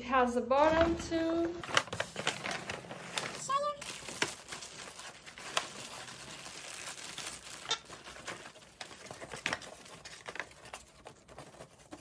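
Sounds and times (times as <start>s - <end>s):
paper and plastic packaging rustling: 0.5s - 12.0s.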